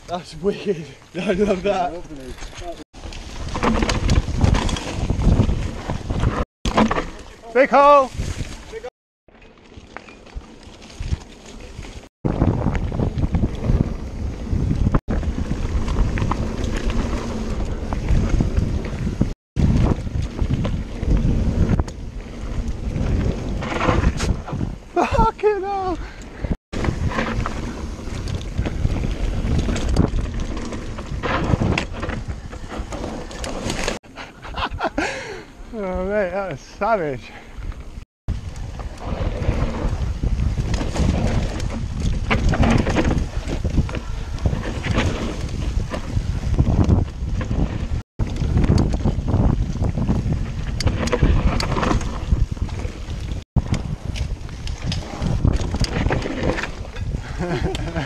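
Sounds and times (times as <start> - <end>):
bike tyres rumbling on dirt: 0.0 - 58.0
bike rattling over bumps: 1.2 - 34.0, 36.6 - 58.0
wind buffeting microphone: 1.6 - 6.4, 10.2 - 35.4, 37.5 - 58.0.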